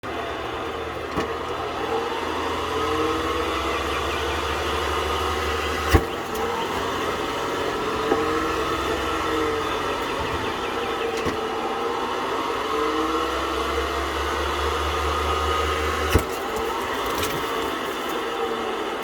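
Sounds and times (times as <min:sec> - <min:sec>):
ball machine motor hum: 0:00.0 - 0:19.0.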